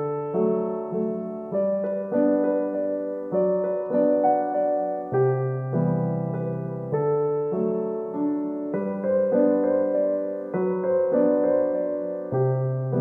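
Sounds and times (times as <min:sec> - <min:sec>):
soft keyboard music: 0:00.0 - 0:13.0.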